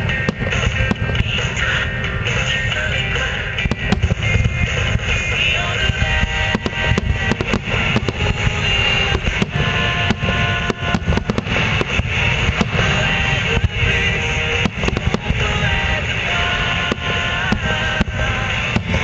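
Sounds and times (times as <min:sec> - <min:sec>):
fireworks bursting: 0:00.0 - 0:19.0
music: 0:00.0 - 0:19.0.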